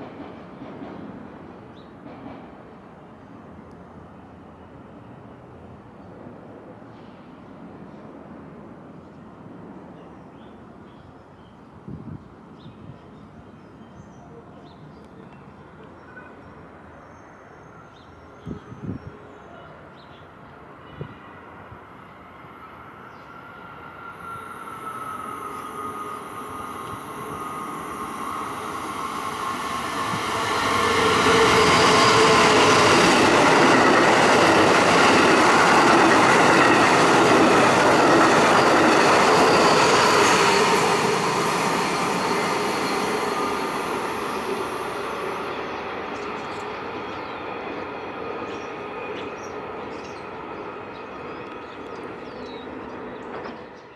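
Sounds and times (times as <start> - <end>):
train passing on tracks: 0.0 - 11.1, 11.7 - 53.9.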